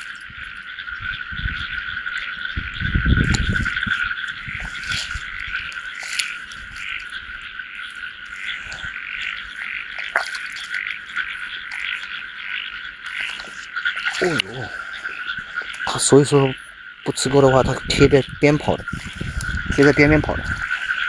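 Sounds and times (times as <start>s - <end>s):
frogs calling: 0.0s - 21.0s
muddy water sloshing: 0.0s - 21.0s.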